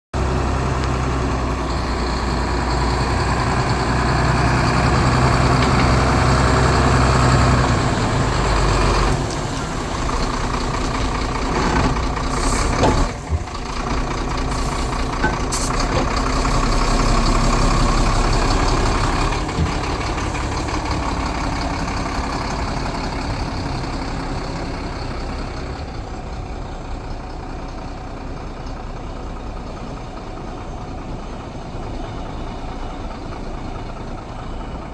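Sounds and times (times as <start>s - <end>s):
truck diesel engine revving: 0.2s - 34.9s.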